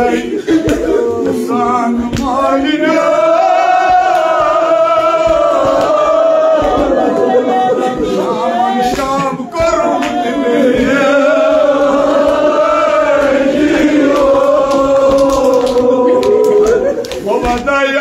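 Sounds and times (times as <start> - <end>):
men chanting a long note: 0.0 - 18.0.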